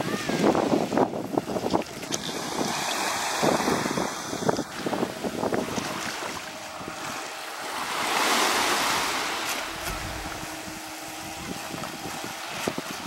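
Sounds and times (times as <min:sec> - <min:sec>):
distant speedboat running: 0:00.0 - 0:13.0
wind on microphone: 0:00.0 - 0:13.0.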